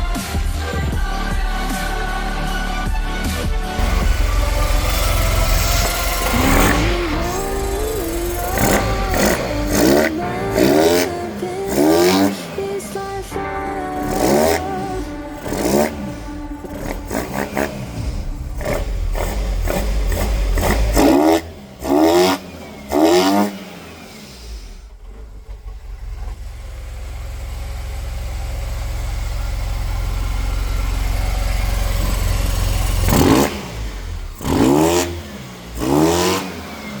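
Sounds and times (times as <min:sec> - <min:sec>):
engine revving in throttle blips: 0:03.8 - 0:37.0.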